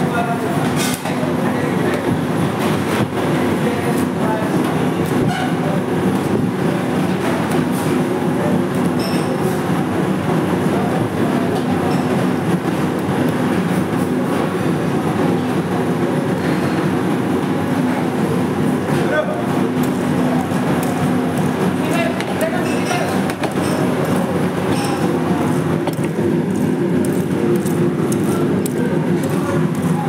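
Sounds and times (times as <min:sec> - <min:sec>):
kitchen machinery droning: 0:00.0 - 0:30.0.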